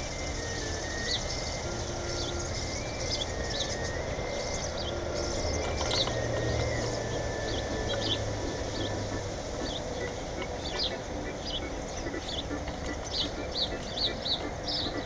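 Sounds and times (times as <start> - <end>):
faint thin steady tones: 0.0 - 15.0
small birds chirping: 0.0 - 15.0.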